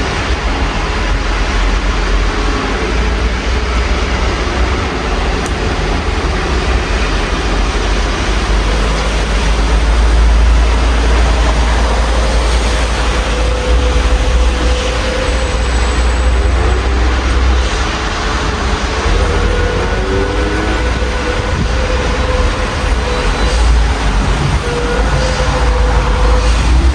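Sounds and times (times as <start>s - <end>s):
passing vehicle rumble: 0.0s - 26.9s
rain falling: 0.0s - 26.9s.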